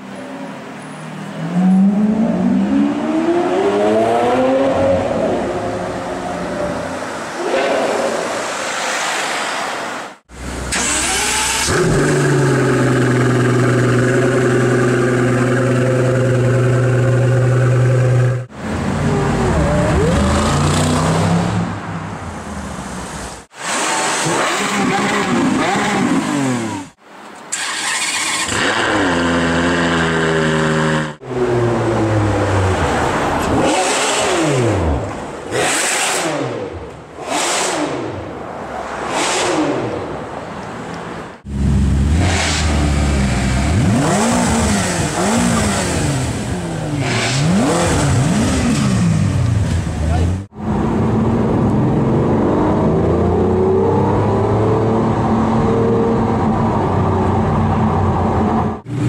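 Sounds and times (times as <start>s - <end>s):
sports car engines revving: 1.3s - 8.4s, 10.4s - 22.6s, 23.5s - 27.0s, 27.6s - 59.0s.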